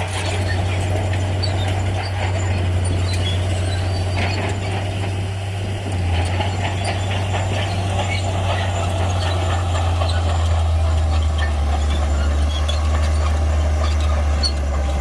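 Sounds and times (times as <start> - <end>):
bulldozer diesel engine droning: 0.0 - 15.0
machine clanks and rattles: 0.0 - 15.0.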